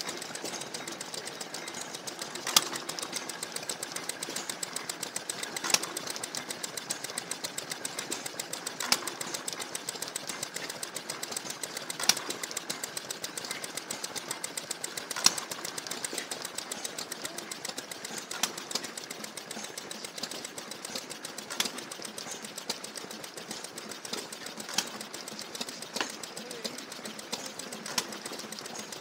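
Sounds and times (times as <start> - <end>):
stationary engines clattering: 0.0 - 29.0.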